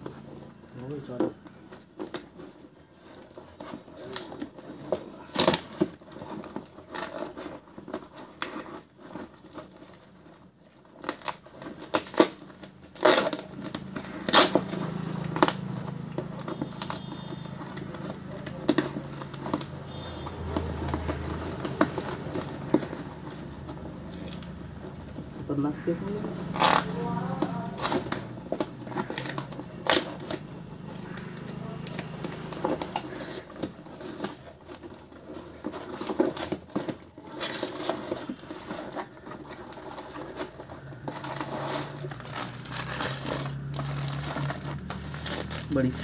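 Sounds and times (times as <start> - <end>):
packaging crinkling: 0.0 - 46.0
packing tape and cardboard ripping: 0.0 - 46.0.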